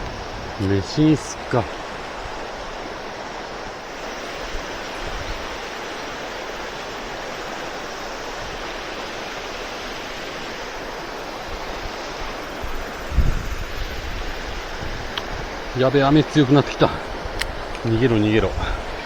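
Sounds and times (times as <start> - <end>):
heavy rain: 0.0 - 19.0
mountain stream rushing: 0.0 - 19.0.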